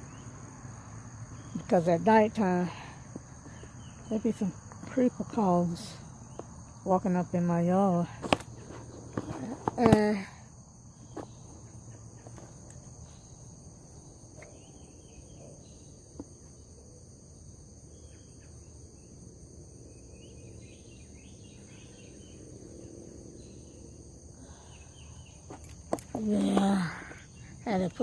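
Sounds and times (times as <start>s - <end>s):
insect chorus droning: 0.0s - 28.0s.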